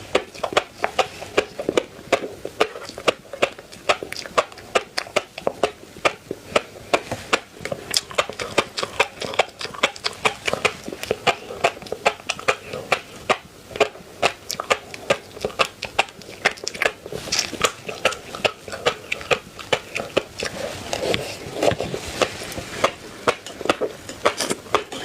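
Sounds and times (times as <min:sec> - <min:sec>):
wet chewing clicks and smacks: 0:00.0 - 0:25.0.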